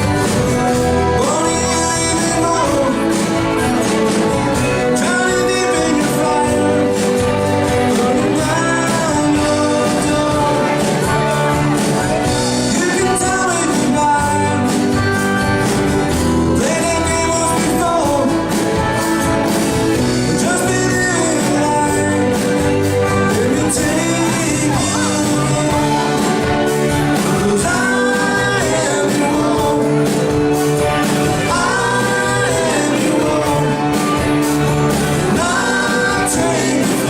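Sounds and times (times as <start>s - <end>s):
live rock band playing: 0.0s - 37.0s
person singing: 0.0s - 37.0s.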